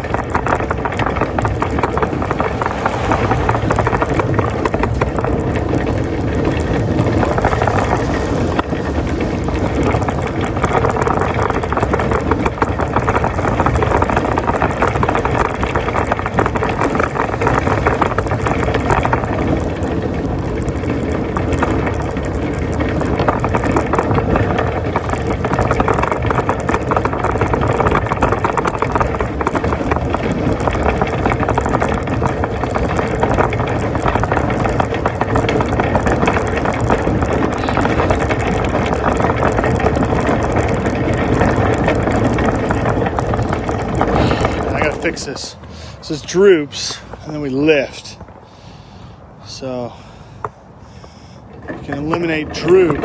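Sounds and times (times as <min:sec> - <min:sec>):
shopping cart wheels rattling: 0:00.0 - 0:48.4, 0:49.4 - 0:50.2, 0:51.5 - 0:53.0.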